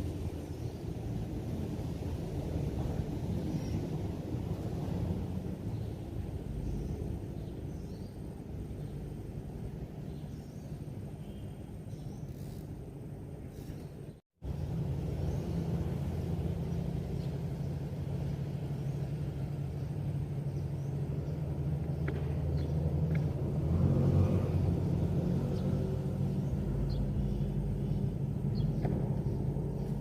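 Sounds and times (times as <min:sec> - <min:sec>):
engine droning hum: 0:00.0 - 0:30.0.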